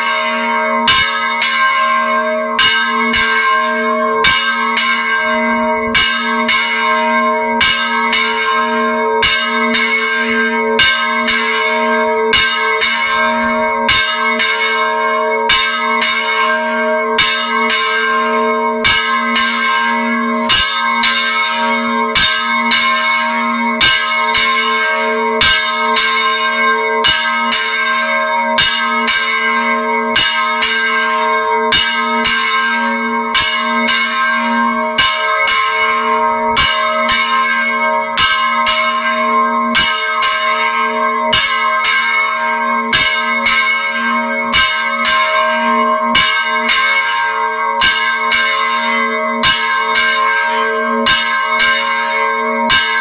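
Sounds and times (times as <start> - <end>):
church bell ringing: 0.0 - 53.0.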